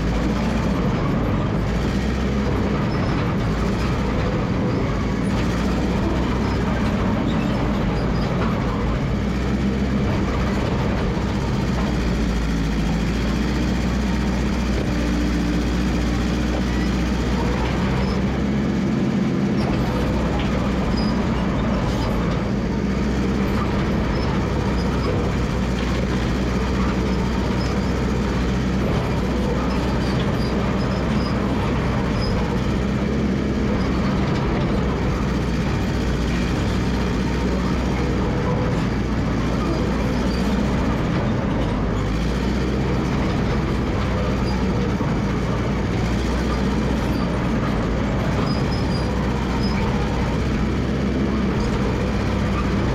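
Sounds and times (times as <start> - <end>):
dozer engine running: 0.0 - 52.9
steel tracks clattering: 0.0 - 52.9.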